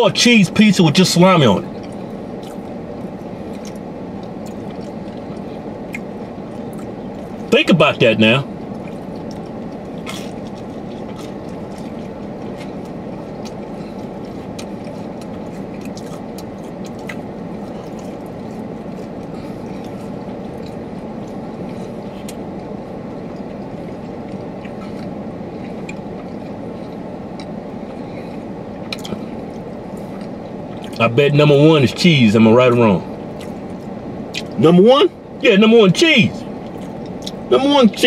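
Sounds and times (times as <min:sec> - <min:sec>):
car cabin hum: 0:00.0 - 0:38.0
close-up chewing: 0:01.4 - 0:07.5, 0:08.4 - 0:31.1, 0:32.7 - 0:34.6, 0:36.4 - 0:37.6.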